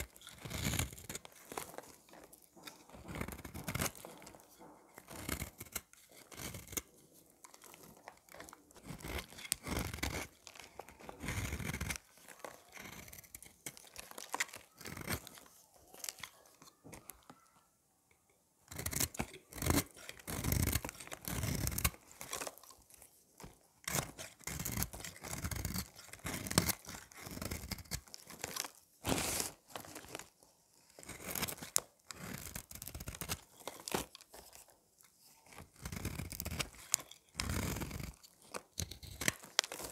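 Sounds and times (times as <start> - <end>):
knife blade scraping soap: 0.0 - 17.2, 18.7 - 39.9.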